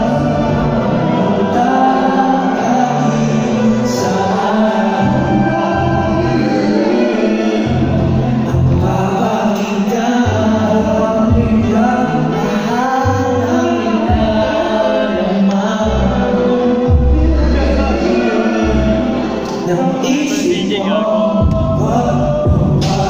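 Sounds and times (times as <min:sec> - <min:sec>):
backing track with deep bass: 0:00.0 - 0:23.0
person singing: 0:00.0 - 0:23.0.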